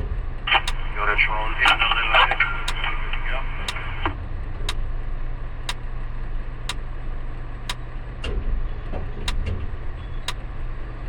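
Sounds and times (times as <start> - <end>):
crane machinery hum: 0.0 - 11.0.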